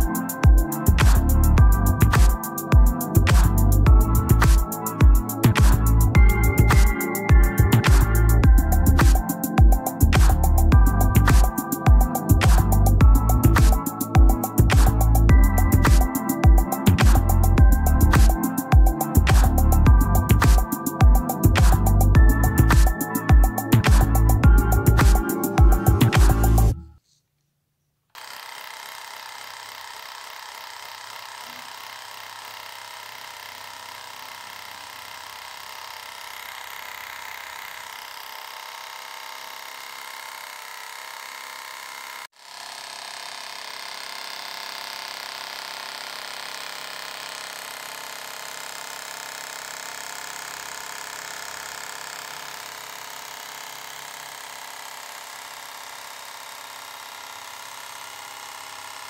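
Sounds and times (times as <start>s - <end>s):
small motor air pump running: 0.0s - 26.8s, 28.2s - 59.0s.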